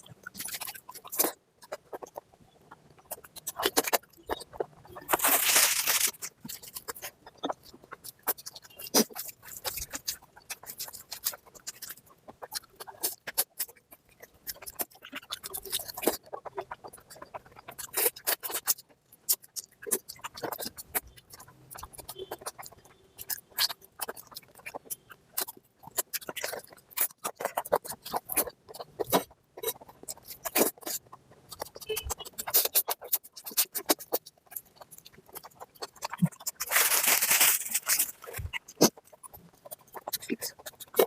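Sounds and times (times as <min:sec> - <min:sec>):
wet chewing and lip-smacking: 0:00.0 - 0:41.0.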